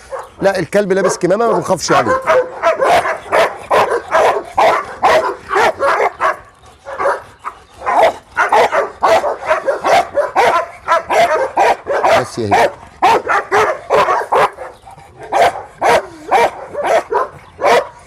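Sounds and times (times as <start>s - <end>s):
dog barking: 0.0s - 18.0s.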